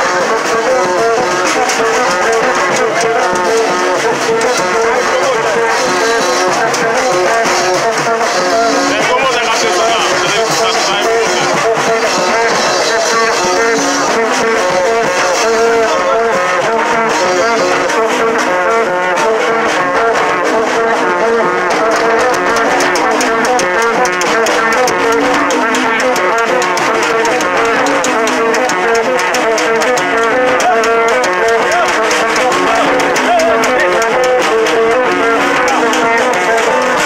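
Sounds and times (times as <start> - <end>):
fast sharp percussion strokes: 0.0 - 37.0
horns blowing short notes: 0.0 - 37.0.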